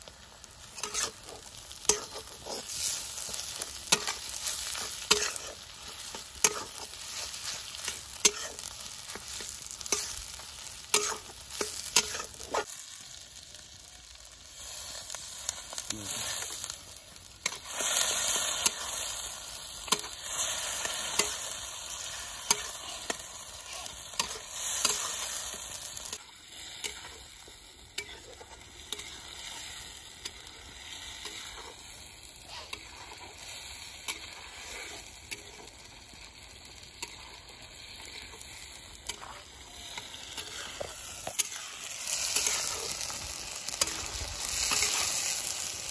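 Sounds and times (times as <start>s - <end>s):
frying sizzle: 0.0s - 45.9s
metal spatula scraping wok: 0.5s - 12.7s, 17.4s - 27.3s, 27.9s - 35.8s, 36.9s - 45.9s.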